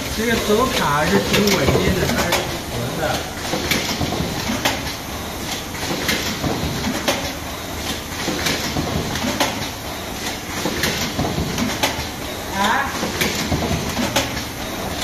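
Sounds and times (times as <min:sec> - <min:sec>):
steady machine noise: 0:00.0 - 0:15.0.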